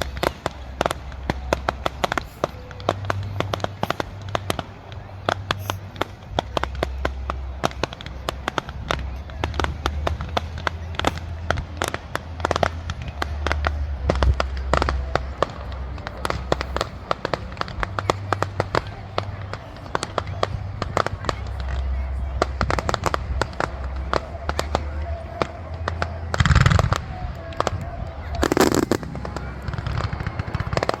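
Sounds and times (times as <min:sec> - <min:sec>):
fireworks popping and crackling: 0:00.0 - 0:31.0.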